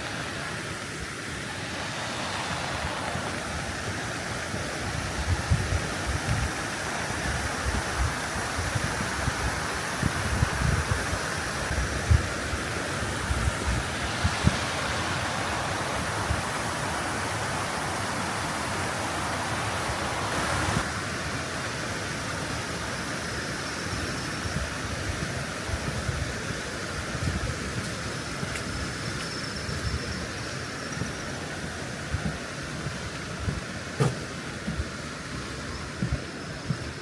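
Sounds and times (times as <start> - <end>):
steady rain hissing: 0.0 - 37.0.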